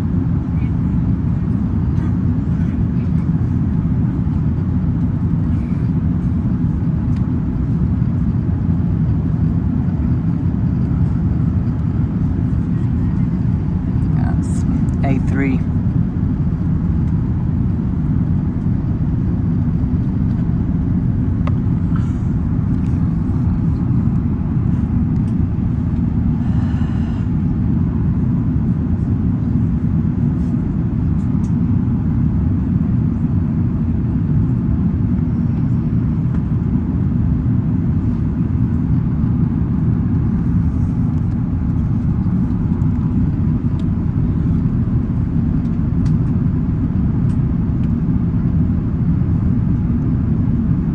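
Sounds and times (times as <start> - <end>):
jet engines and airflow rumble: 0.0 - 50.9.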